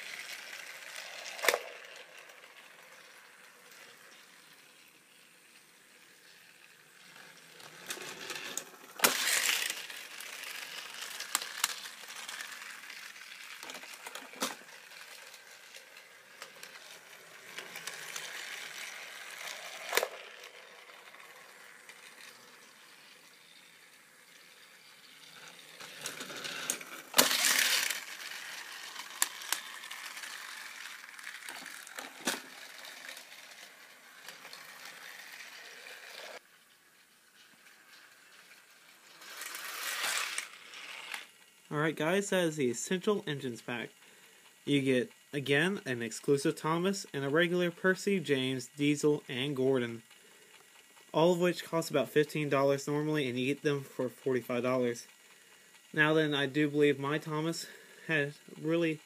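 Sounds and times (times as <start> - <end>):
toy train motor whirring: 0.0 - 59.0
toy train wheels clattering: 0.0 - 59.0.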